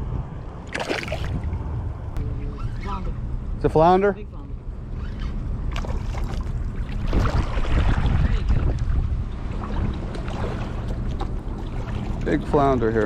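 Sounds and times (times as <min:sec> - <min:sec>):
wind and water rumble on microphone: 0:00.0 - 0:13.0.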